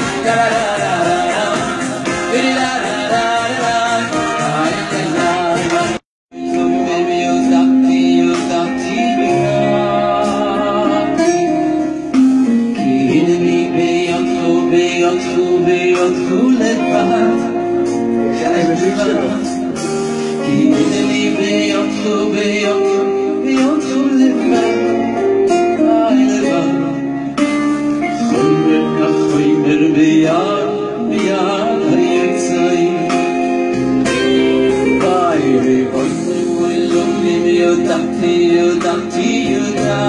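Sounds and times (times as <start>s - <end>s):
guitar accompaniment: 0.0s - 40.0s
man singing into microphone: 0.0s - 40.0s.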